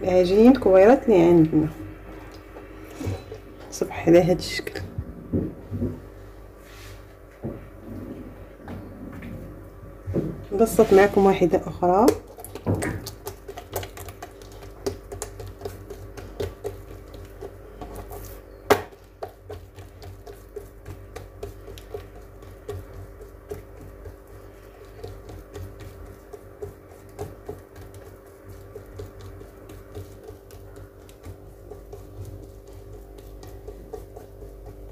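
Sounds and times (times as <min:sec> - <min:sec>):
hands patting dough in bowl: 0:00.0 - 0:06.1, 0:10.1 - 0:34.9.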